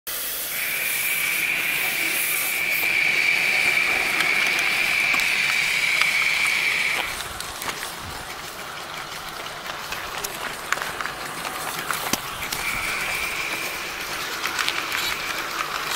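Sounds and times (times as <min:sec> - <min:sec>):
model steam locomotive letting off steam: 0:00.1 - 0:15.9.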